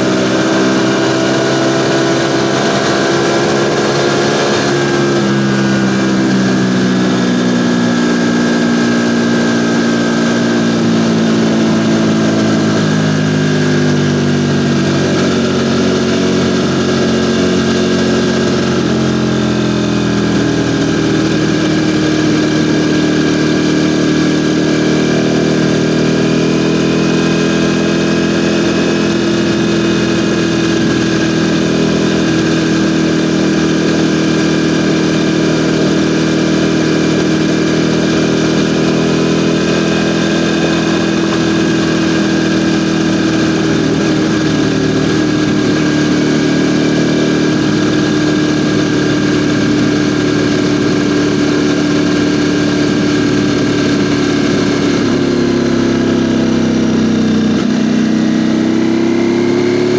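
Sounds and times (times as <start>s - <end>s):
motorcycle engine running loudly: 0.0s - 59.9s.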